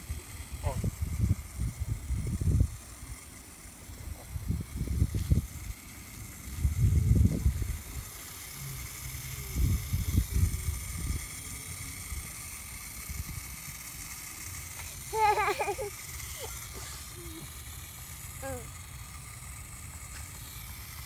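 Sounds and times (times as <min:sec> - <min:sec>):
water spraying from hose onto grass: 0:00.0 - 0:21.0.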